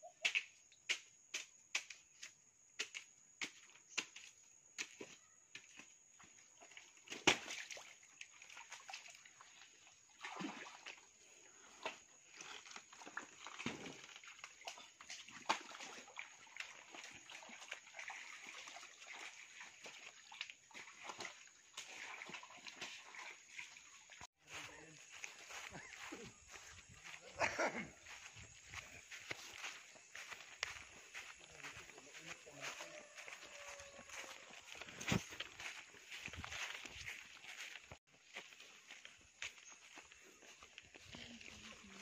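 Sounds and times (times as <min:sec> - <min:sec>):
splashing in muddy water: 0:02.8 - 0:42.0.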